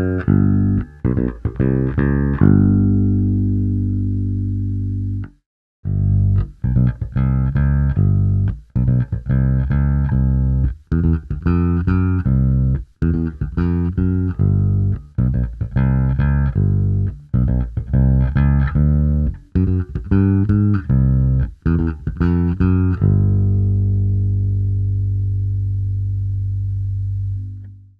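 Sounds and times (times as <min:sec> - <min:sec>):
plucked electric bass notes: 0:00.0 - 0:27.9.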